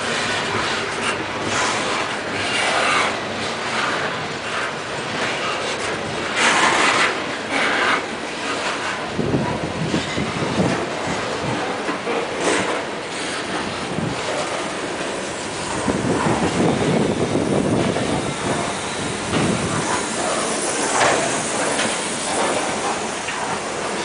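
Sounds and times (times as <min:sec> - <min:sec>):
train cars rumbling past: 0:00.0 - 0:24.0.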